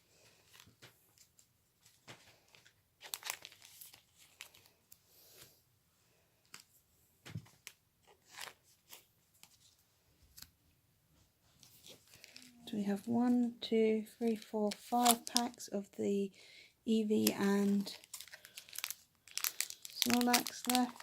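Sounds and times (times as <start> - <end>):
wrappers and cards rustling: 0.1 - 5.5, 7.3 - 10.5, 11.4 - 15.9, 16.9 - 21.0.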